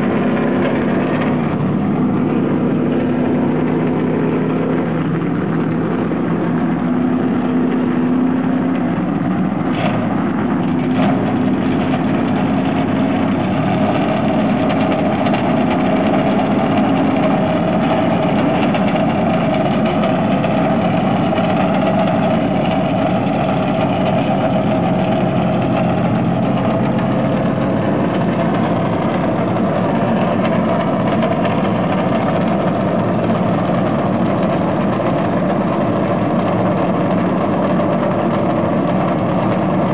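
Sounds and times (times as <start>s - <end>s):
race car engine idling: 0.0s - 39.9s.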